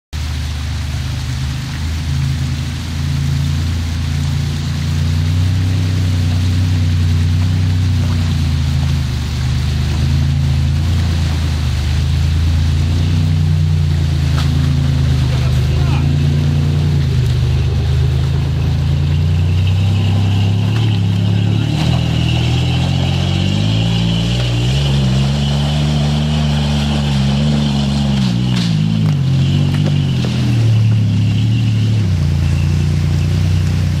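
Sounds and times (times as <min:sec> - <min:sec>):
off-road buggy engine under load: 0:00.1 - 0:34.0.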